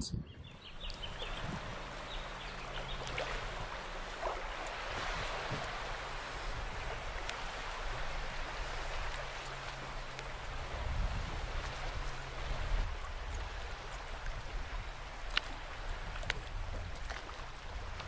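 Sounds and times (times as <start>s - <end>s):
water lapping and splashing: 0.4s - 18.0s.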